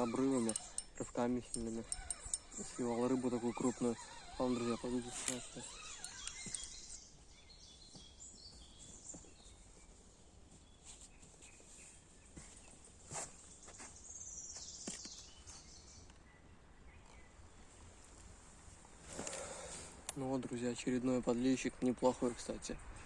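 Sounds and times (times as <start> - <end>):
distant birdsong: 0.0 - 23.0.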